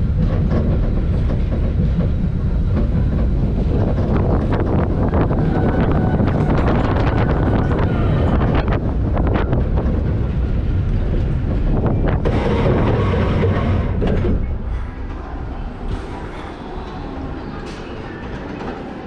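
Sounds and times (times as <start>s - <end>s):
roller coaster wheels rumbling: 0.0s - 19.0s
track clicks and knocks: 0.0s - 19.0s
wind rushing over microphone: 0.0s - 19.0s.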